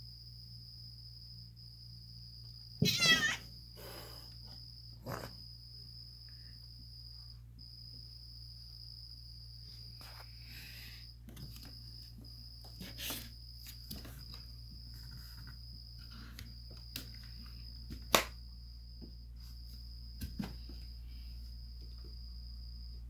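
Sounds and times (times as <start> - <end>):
constant low hum: 0.0 - 23.0
cricket trilling: 0.0 - 23.0.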